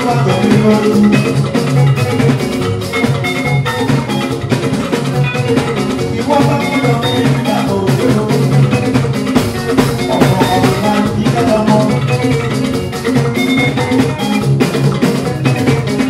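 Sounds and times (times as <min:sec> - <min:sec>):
drums playing a steady beat: 0:00.0 - 0:16.0
electric guitars: 0:00.0 - 0:16.0
live band music: 0:00.0 - 0:16.0.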